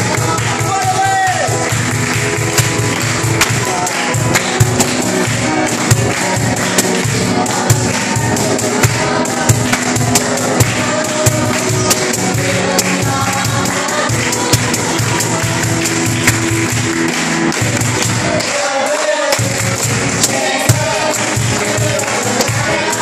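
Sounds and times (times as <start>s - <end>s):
group singing a worship song: 0.0s - 23.0s
hands clapping in time: 0.0s - 23.0s.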